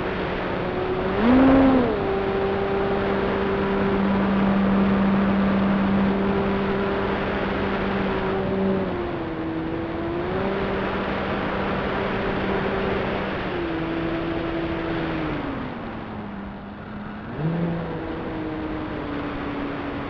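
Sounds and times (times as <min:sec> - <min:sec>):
electric motor and propeller droning: 0:00.0 - 0:20.0.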